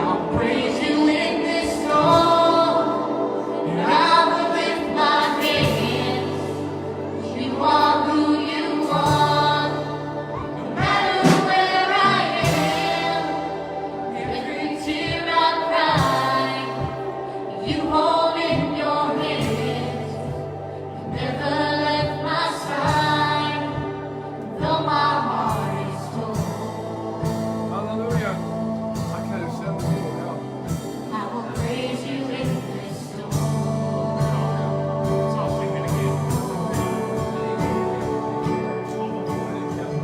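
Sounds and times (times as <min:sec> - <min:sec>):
band accompaniment: 0:00.0 - 0:40.0
voices singing slow worship song: 0:00.0 - 0:40.0.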